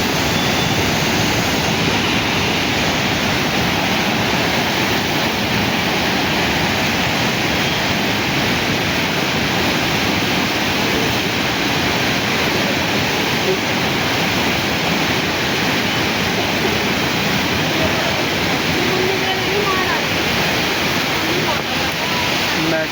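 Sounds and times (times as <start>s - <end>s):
river water rushing: 0.0s - 22.9s.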